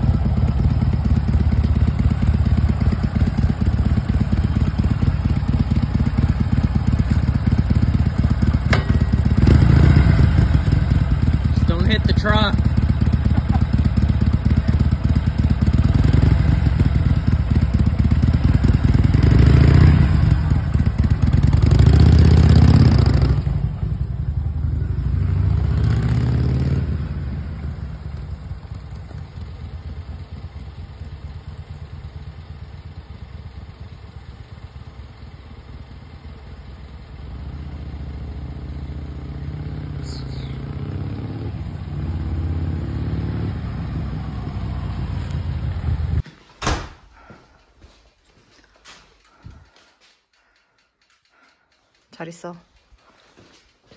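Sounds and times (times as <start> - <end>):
motorcycle engine revving: 0.0 - 46.2.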